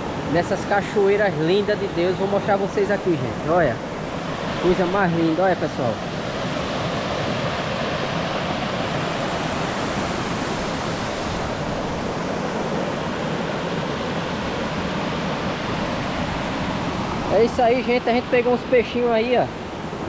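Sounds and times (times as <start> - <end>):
water rushing over rocks: 0.0 - 19.1.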